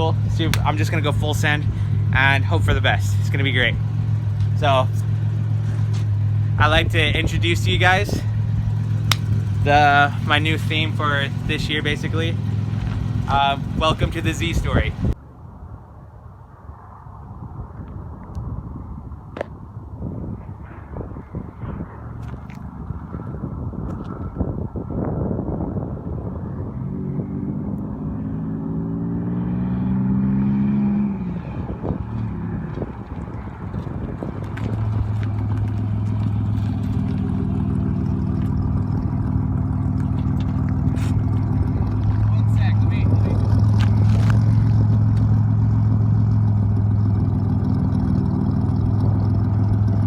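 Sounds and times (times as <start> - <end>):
car engine accelerating: 0.0 - 15.2, 20.2 - 50.0.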